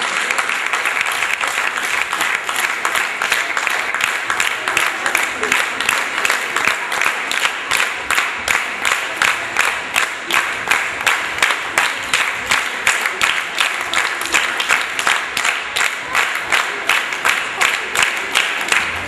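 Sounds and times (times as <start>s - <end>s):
audience clapping in rhythm: 0.0s - 19.0s.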